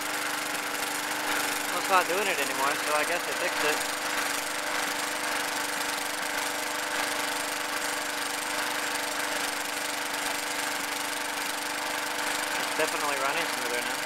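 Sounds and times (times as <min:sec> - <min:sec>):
lawn mower engine idling: 0:00.0 - 0:14.0.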